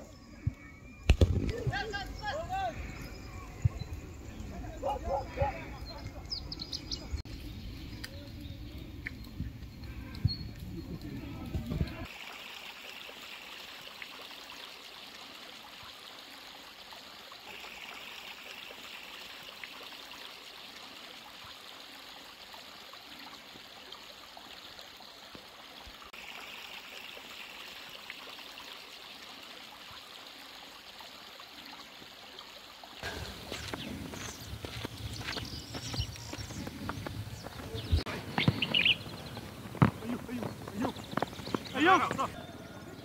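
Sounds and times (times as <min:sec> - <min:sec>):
stream of running water: 0:00.0 - 0:43.0.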